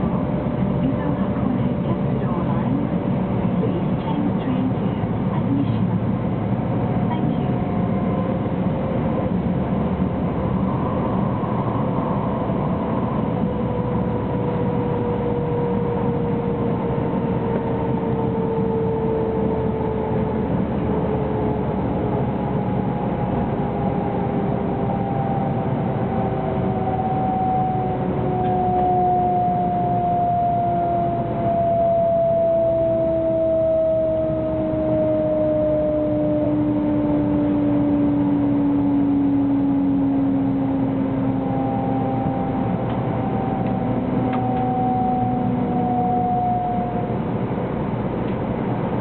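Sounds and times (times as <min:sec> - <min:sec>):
traction motor whine: 0:05.6 - 0:49.0.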